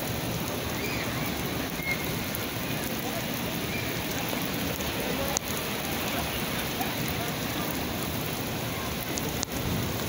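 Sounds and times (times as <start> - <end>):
rain on stone paving: 0.0 - 10.0.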